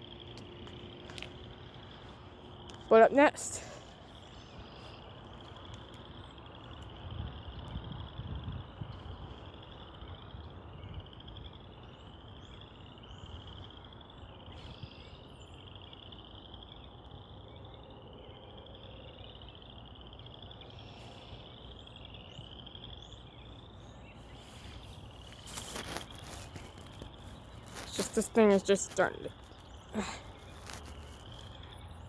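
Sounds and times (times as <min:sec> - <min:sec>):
frogs trilling: 0:00.0 - 0:32.0.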